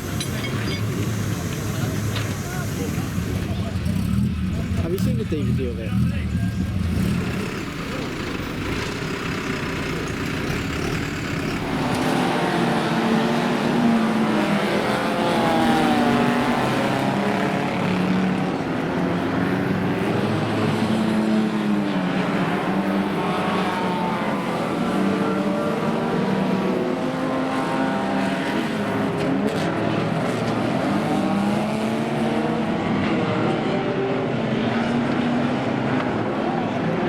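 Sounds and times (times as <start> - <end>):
racing car engines: 0.0 - 37.0.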